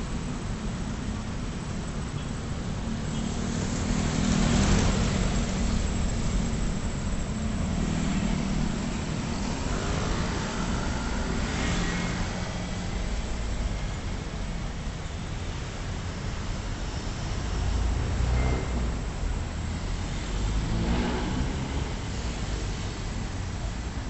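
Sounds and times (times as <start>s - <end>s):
road traffic rumble: 0.0s - 24.0s
vehicles passing: 0.0s - 24.0s.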